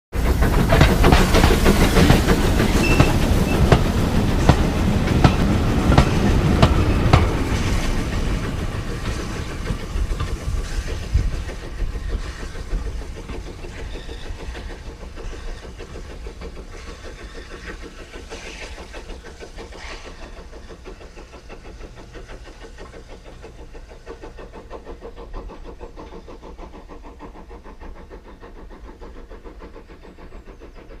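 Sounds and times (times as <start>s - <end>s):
train wheels clattering over rail joints: 0.2s - 31.0s.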